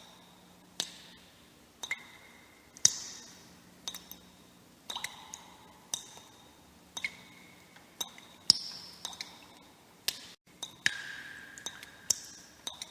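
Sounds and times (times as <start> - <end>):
water drops plinking into water: 1.8 - 4.3, 4.9 - 12.9.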